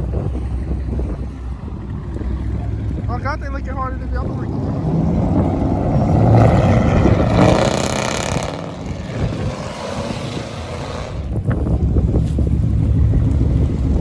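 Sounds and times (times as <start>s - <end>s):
loud car exhaust revving: 0.0s - 14.0s.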